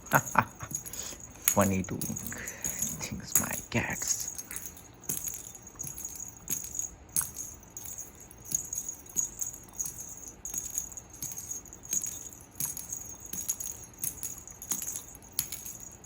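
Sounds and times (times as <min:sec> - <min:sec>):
small bell jingling: 0:00.0 - 0:16.0.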